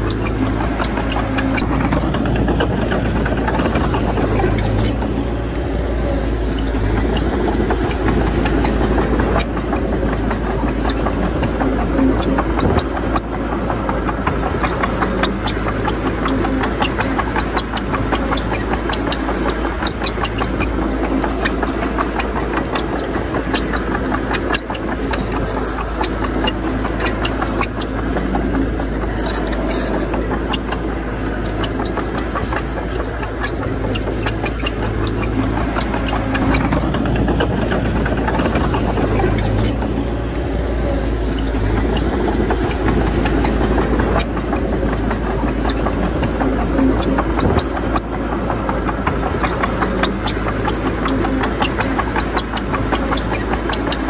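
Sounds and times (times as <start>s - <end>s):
bulldozer diesel engine running: 0.0s - 54.0s
small clicks and rattles: 0.0s - 54.0s.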